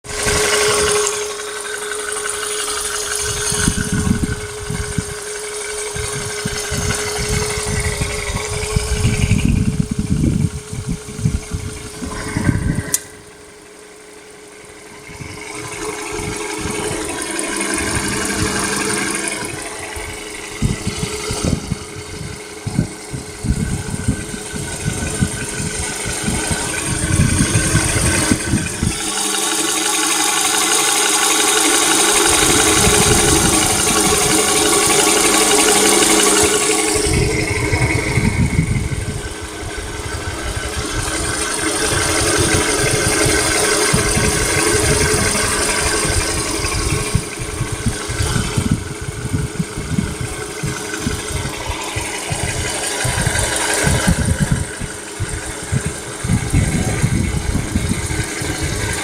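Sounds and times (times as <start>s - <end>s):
car engine knocking and revving: 0.0s - 59.0s.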